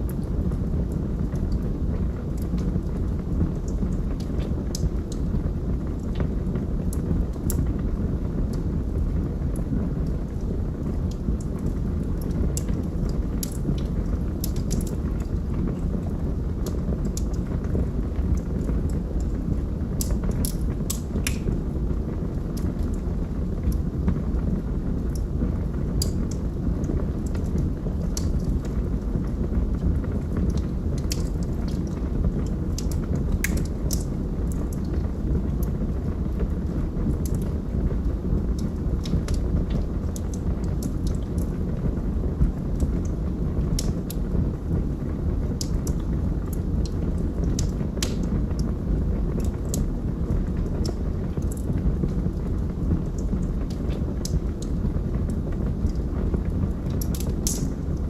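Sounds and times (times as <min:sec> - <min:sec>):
log fire flames rushing: 0:00.0 - 0:58.0
burning wood crackling: 0:00.1 - 0:58.0.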